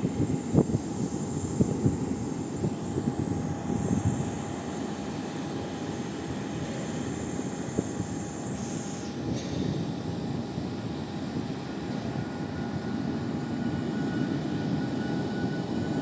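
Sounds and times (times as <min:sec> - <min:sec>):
thin steady engine tone: 0:00.0 - 0:16.0.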